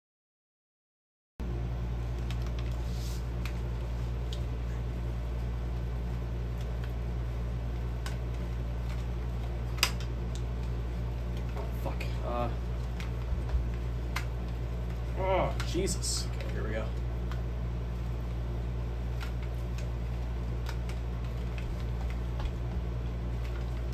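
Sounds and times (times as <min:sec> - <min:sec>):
low room hum: 0:01.4 - 0:23.9.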